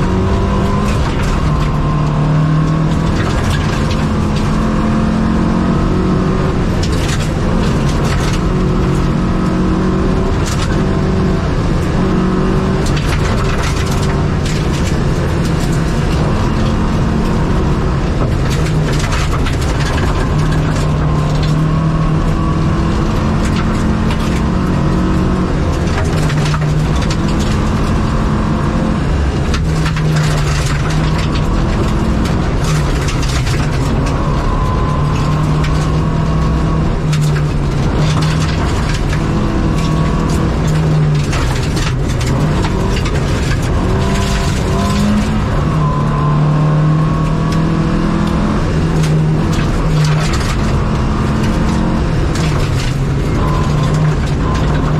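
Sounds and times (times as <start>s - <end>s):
car engine revving: 0.0s - 54.9s
gravel rattling against underbody: 0.0s - 54.9s.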